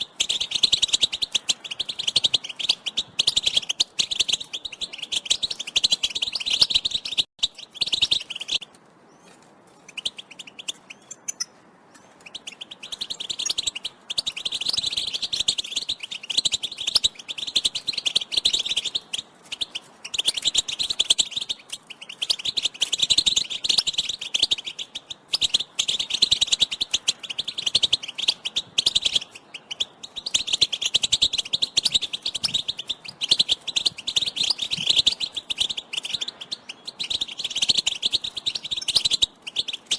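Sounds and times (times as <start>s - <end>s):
goldfinch twittering: 0.0s - 8.6s, 9.9s - 39.9s.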